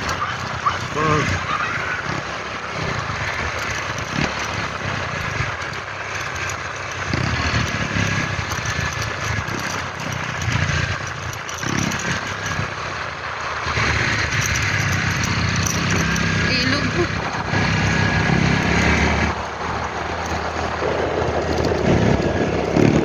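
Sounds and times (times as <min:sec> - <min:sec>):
pickup engine running: 0:00.0 - 0:23.0
tyre and road noise: 0:00.0 - 0:23.0.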